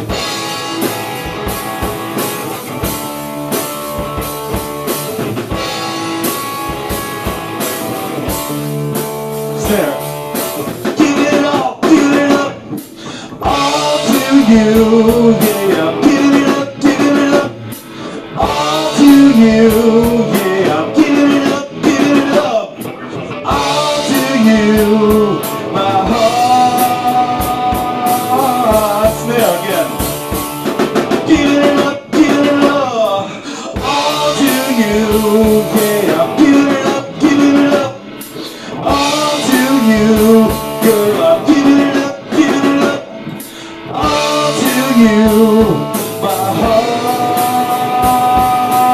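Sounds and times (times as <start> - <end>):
drum kit: 0.0 - 48.9
electric guitar riff: 0.0 - 48.9.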